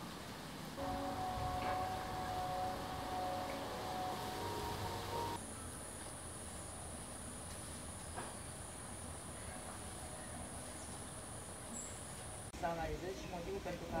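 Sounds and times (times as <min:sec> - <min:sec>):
insects droning high-pitched: 0:00.8 - 0:12.5.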